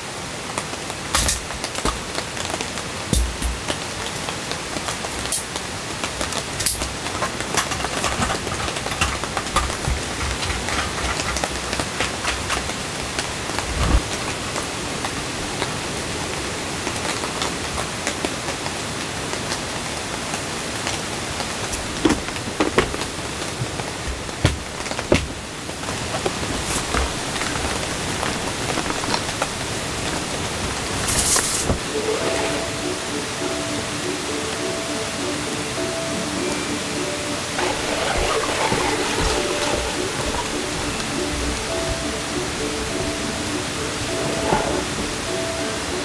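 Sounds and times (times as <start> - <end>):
rain on tent: 0.0 - 33.4, 37.4 - 44.2.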